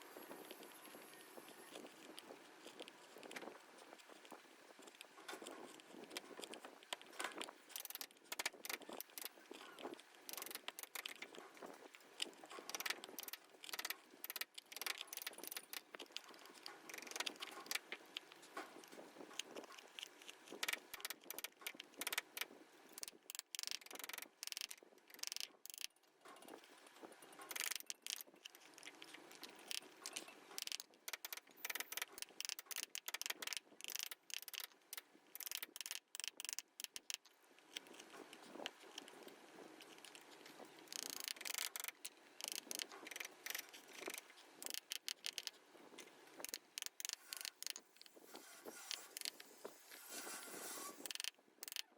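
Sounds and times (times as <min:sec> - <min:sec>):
carving tools scraping wood: 0:00.2 - 0:51.9.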